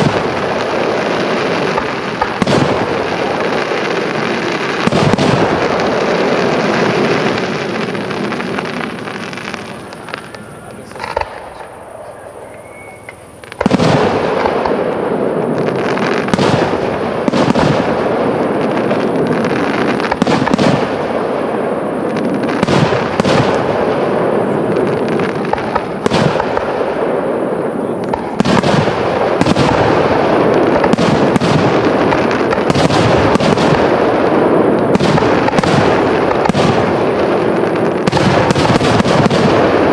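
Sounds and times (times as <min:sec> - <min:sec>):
firework crackle: 0:00.0 - 0:39.9
firework shells bursting: 0:00.0 - 0:39.9.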